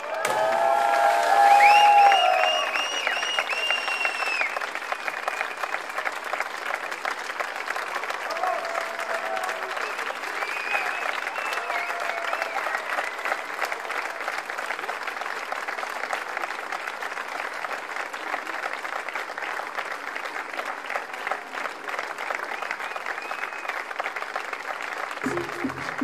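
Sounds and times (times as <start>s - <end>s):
large audience applauding: 0.0s - 26.0s.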